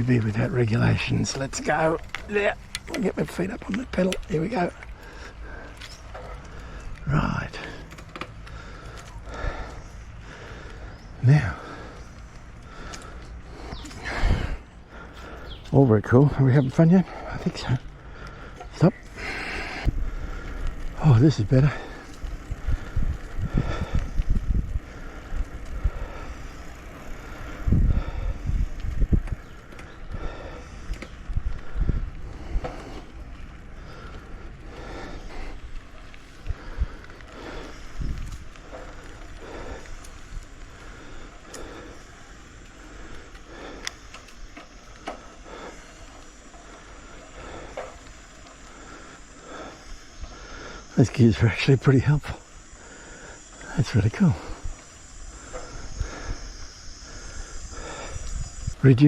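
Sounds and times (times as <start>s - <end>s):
wind buffeting microphone: 0.0s - 51.4s, 53.4s - 59.0s
bicycle clicks: 0.0s - 59.0s
heavy breathing: 4.2s - 15.7s, 16.6s - 59.0s.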